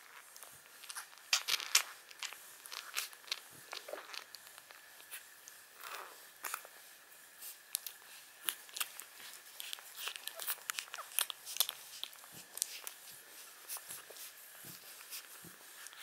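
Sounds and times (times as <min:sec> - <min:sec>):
puppies suckling: 0:00.2 - 0:16.0.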